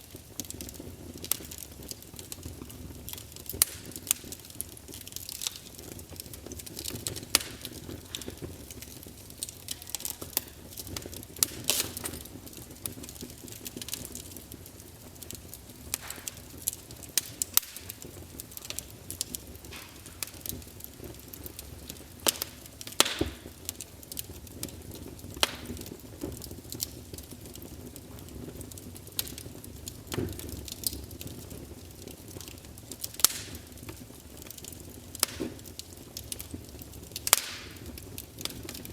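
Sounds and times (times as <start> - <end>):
burning wood crackling and popping: 0.0 - 38.9
campfire hiss: 0.0 - 38.9.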